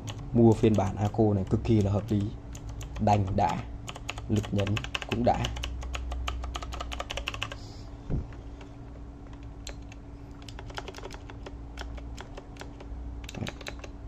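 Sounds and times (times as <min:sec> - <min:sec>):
keyboard switches clicking: 0:00.0 - 0:07.6, 0:09.3 - 0:14.0.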